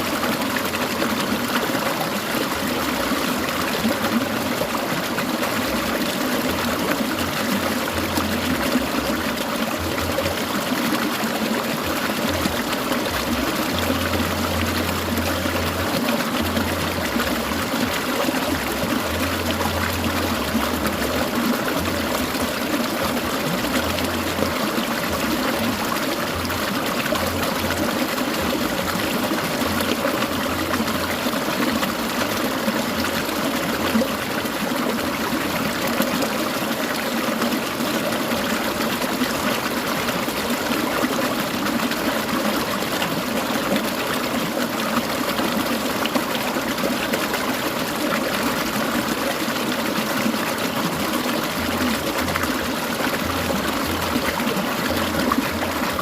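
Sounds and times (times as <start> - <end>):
stream gurgling over rocks: 0.0 - 56.0.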